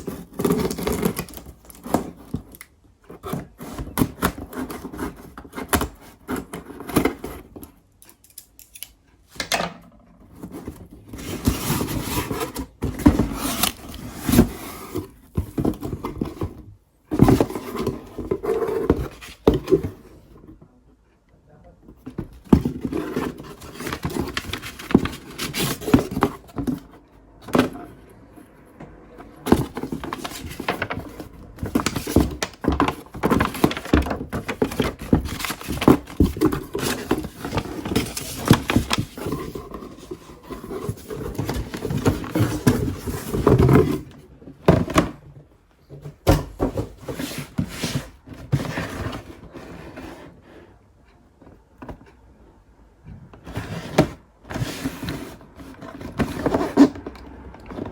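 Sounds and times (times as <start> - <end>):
cardboard box rustling: 0.0 - 7.8, 10.2 - 20.6, 21.9 - 28.4, 29.1 - 52.5, 53.4 - 57.9.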